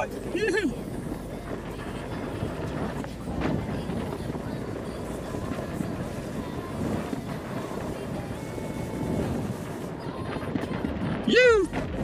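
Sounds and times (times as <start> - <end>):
electric unicycle rumble: 0.0 - 12.0
faint steady whine: 0.0 - 12.0
wind rushing on microphone: 0.0 - 12.0.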